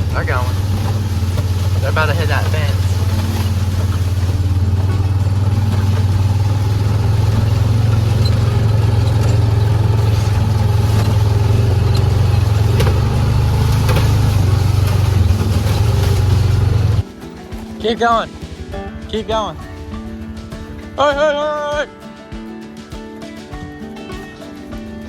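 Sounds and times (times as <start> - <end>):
knocks and rattles: 0.0 - 25.0
vehicle engine running: 0.0 - 25.0.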